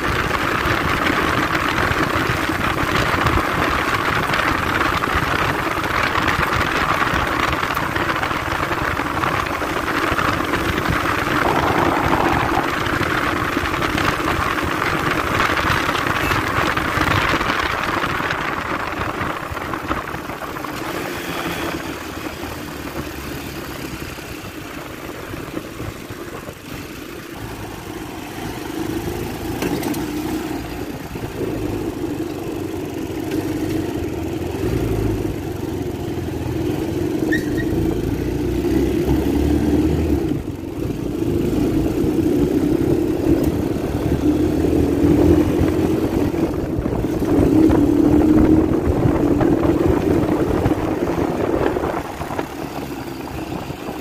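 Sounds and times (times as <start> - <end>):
atv engine running: 0.0 - 54.0
wind and road noise: 0.0 - 54.0.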